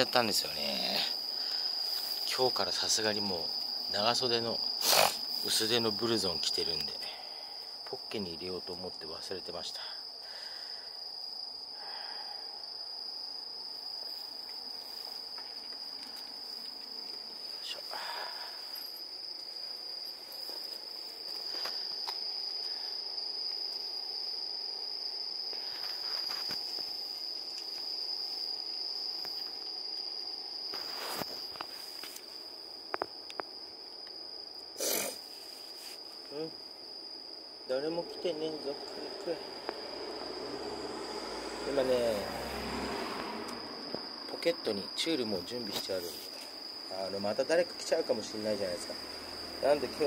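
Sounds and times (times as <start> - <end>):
night insects trilling: 0.0 - 50.0.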